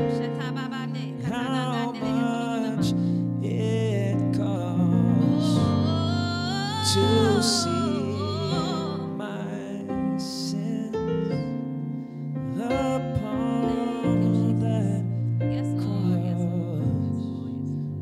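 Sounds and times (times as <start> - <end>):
person singing: 0.0 - 11.6, 12.5 - 18.0
sustained keyboard chords: 0.0 - 18.0.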